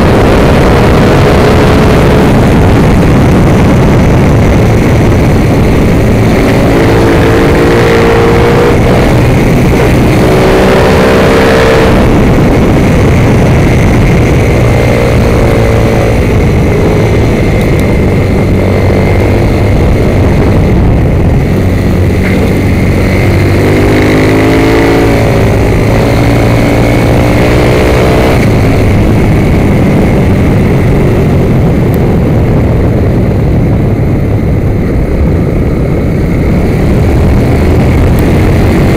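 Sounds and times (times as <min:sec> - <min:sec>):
motorcycle engine revving: 0:00.0 - 0:38.9
wind rush on microphone: 0:00.0 - 0:38.9.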